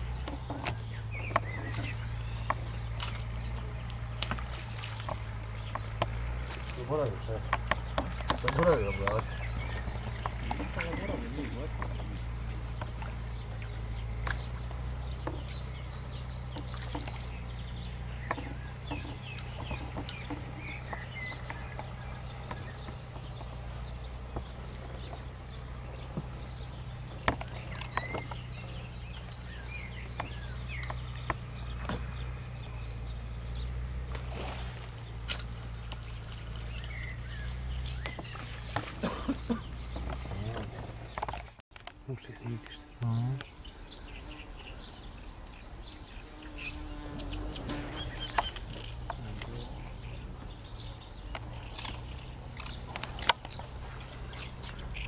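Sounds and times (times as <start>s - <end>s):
bird chirps: 0.0s - 55.0s
steady low hum: 0.0s - 55.0s.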